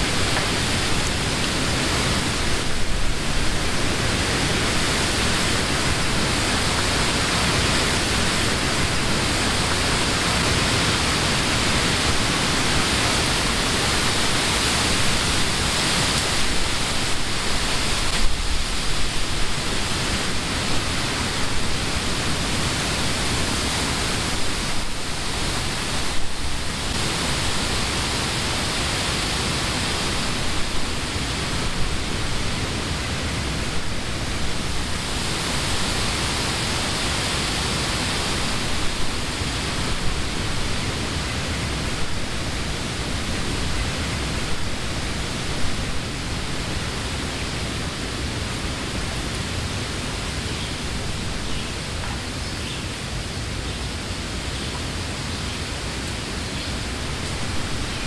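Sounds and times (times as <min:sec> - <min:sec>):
wind rustling leaves: 0:00.0 - 0:58.0.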